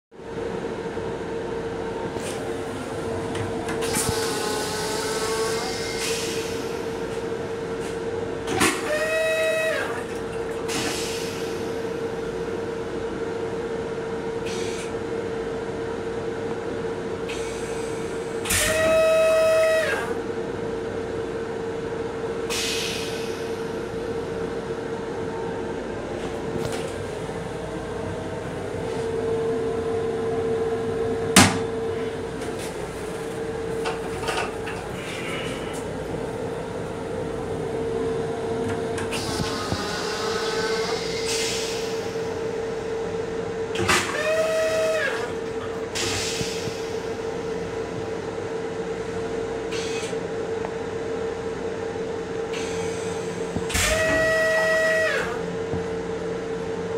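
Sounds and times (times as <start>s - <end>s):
train interior hum: 0.2s - 56.9s.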